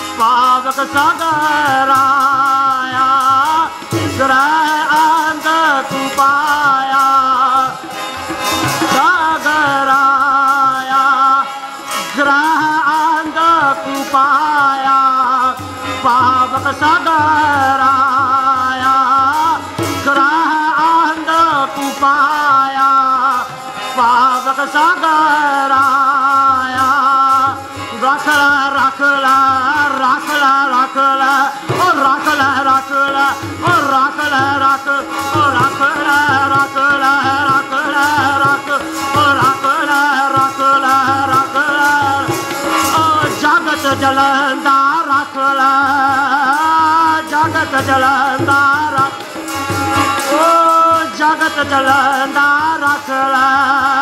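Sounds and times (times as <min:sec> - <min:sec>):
harmonium melody: 0:00.0 - 0:54.0
man singing a hymn: 0:00.0 - 0:54.0
tabla rhythm: 0:00.0 - 0:54.0.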